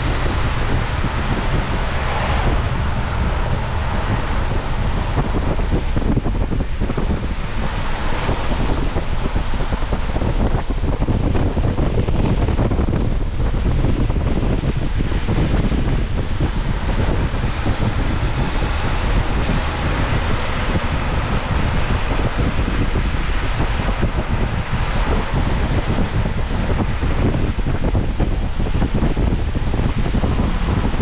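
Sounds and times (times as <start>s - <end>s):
car road noise rumble: 0.0s - 31.0s
wind hiss: 0.0s - 31.0s.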